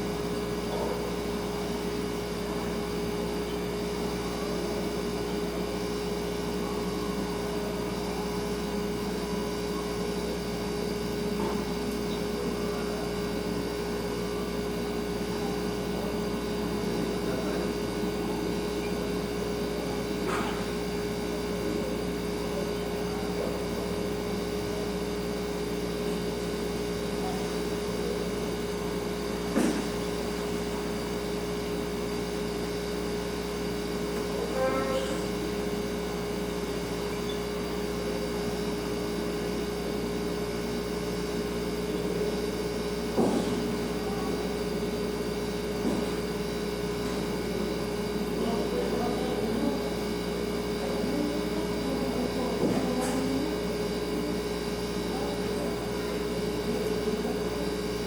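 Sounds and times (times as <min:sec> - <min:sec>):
refrigerator humming: 0:00.0 - 0:58.0.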